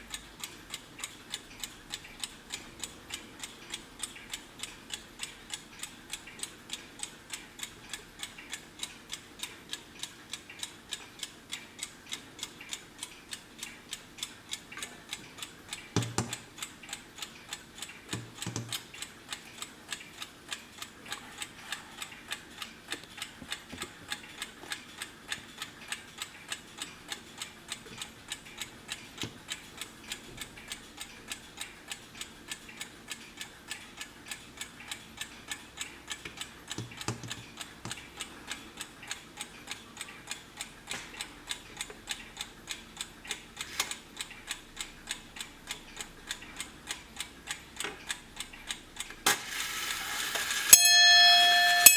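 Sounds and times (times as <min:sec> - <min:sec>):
alarm clock ticking: 0:00.0 - 0:51.9.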